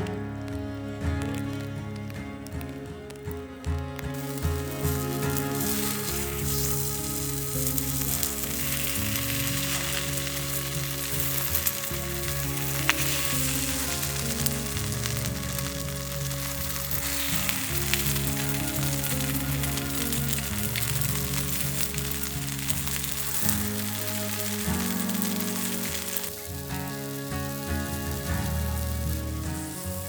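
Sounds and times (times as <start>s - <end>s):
sizzling hiss: 0.0s - 30.0s
soft background music: 0.0s - 30.0s.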